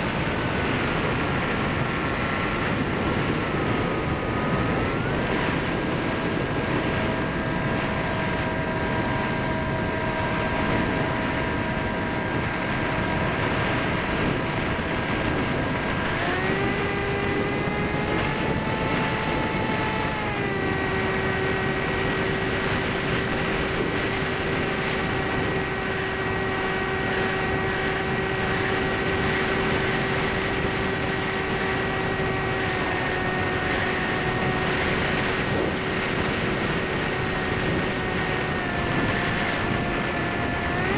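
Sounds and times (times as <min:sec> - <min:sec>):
electric motor propeller whine: 0:00.0 - 0:40.9
wind rush: 0:00.0 - 0:40.9.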